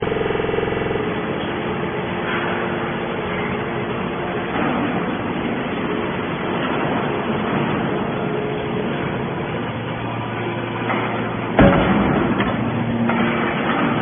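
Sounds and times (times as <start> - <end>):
buzzing hum: 0.0 - 14.0
machinery noise: 0.0 - 14.0.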